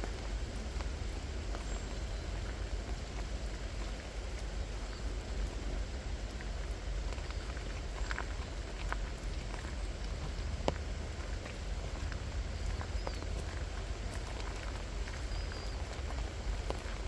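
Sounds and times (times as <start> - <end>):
rain falling: 0.0 - 17.0
raindrop ticks: 0.0 - 17.0.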